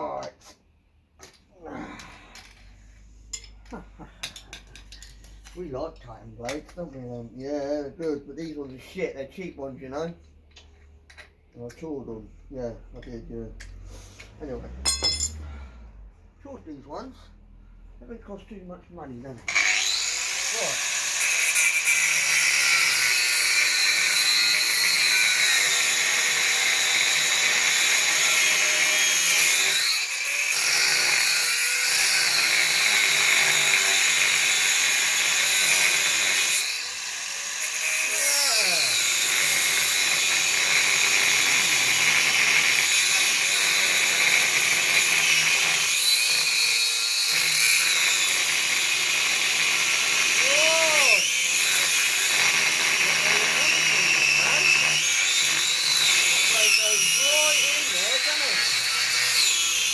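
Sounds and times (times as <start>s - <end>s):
angle grinder cutting steel: 1.3s - 9.2s, 11.2s - 16.1s, 19.0s - 59.9s.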